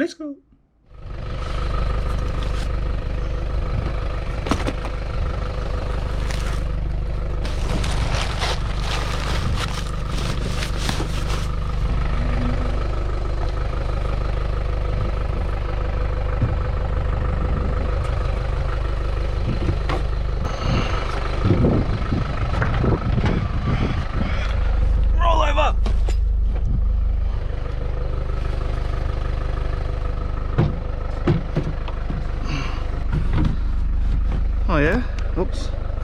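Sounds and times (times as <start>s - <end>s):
vehicle engine and road drone: 0.1s - 36.0s.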